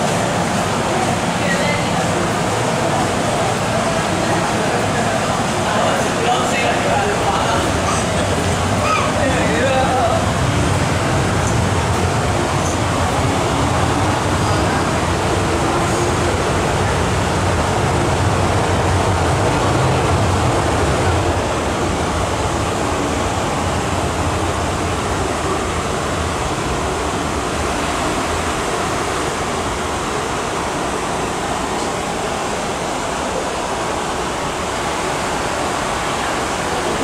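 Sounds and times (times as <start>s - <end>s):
electric train rumbling: 0.0s - 37.0s
train rushing through tunnel: 0.0s - 37.0s.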